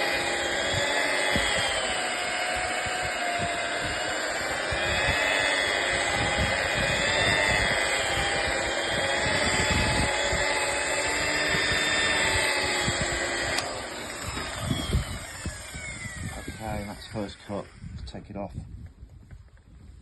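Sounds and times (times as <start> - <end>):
electric polisher motor whine: 0.0 - 18.2.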